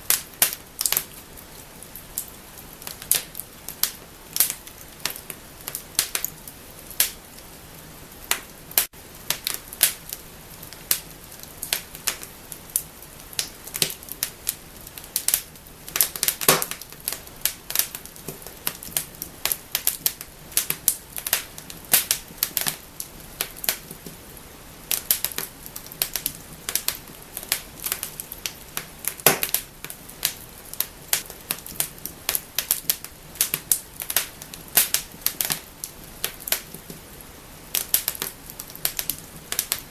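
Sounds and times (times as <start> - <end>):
faint steady hiss: 0.0 - 39.9
fireplace fire crackling: 0.0 - 39.9.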